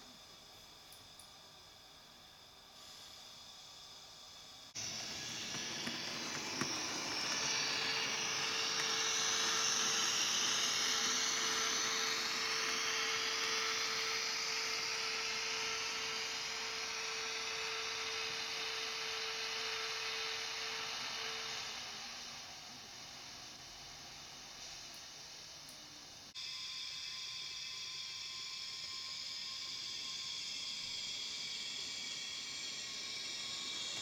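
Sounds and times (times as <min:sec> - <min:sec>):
model locomotive electric whine and hum: 0:00.0 - 0:34.0.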